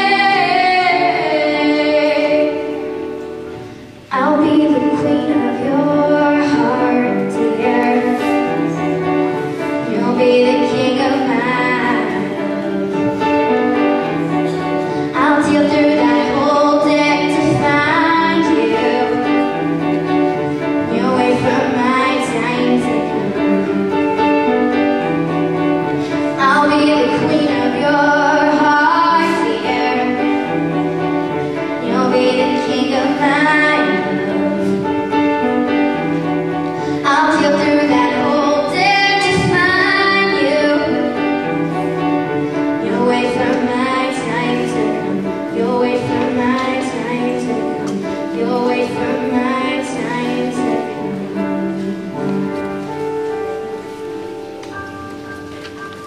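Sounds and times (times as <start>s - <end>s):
girl singing slow song: 0.0s - 24.4s, 25.3s - 52.2s
upright piano: 0.0s - 56.0s.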